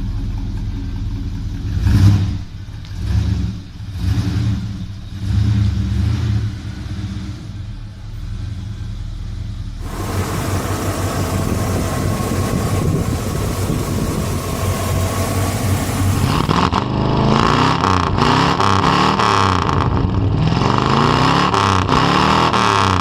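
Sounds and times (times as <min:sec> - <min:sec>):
car engine running: 0:00.0 - 0:23.0
engine revving: 0:01.7 - 0:08.7, 0:09.8 - 0:23.0.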